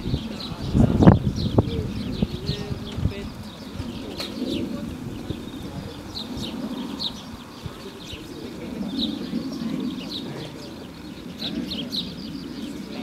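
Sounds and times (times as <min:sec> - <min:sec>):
low background murmur: 0:00.0 - 0:13.0
small birds chirping: 0:00.0 - 0:13.0.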